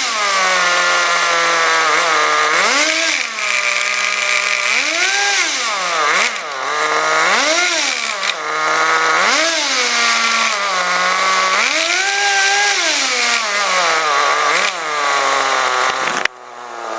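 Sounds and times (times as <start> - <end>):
nitro engine revving: 0.0 - 16.9.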